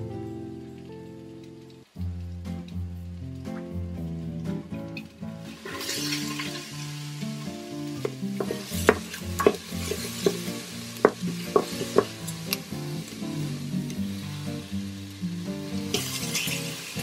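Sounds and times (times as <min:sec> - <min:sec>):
onion sizzling in a pot: 0:00.5 - 0:17.0.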